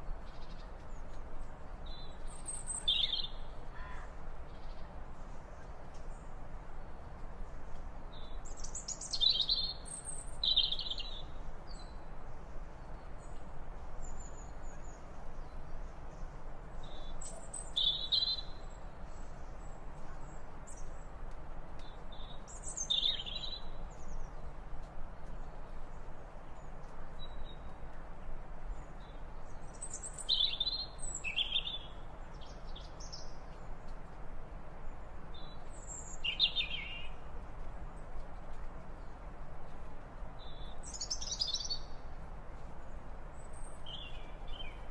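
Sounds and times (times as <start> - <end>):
faint outdoor hiss: 0.0 - 44.9.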